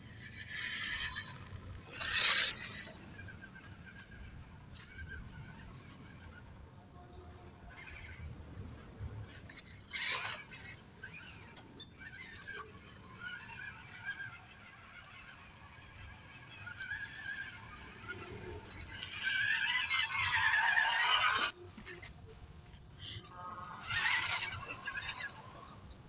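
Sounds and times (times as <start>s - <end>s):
toy truck motor and gears whining: 0.0s - 26.0s.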